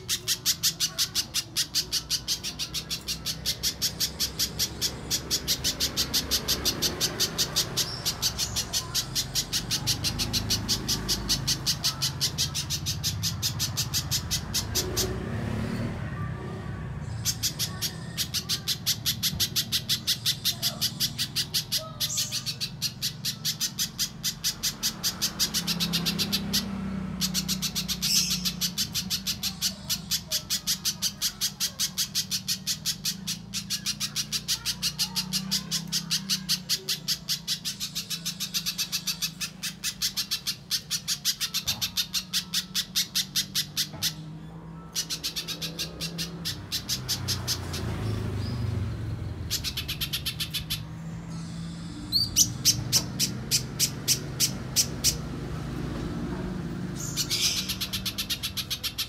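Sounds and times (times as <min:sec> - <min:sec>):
bird high chipping calls: 0:00.0 - 0:15.4, 0:17.0 - 0:59.0.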